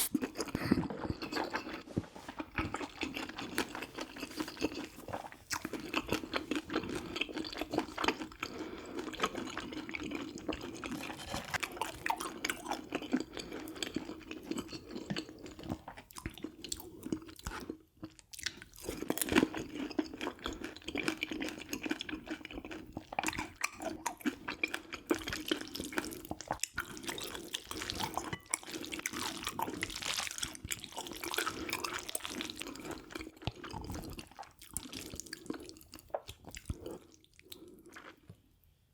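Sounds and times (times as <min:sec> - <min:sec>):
wet chewing mouth sounds: 0:00.0 - 0:38.4.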